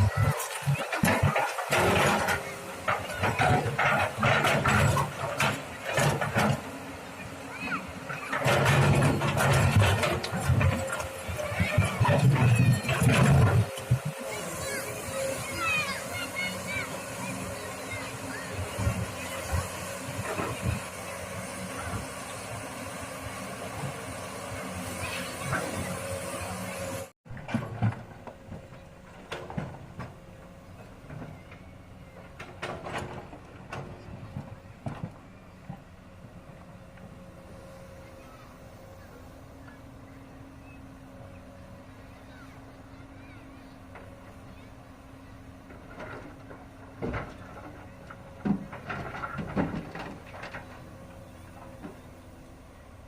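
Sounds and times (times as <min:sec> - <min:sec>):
excavator diesel engine running: 0:00.0 - 0:53.0
quiet engine hum: 0:00.0 - 0:53.0.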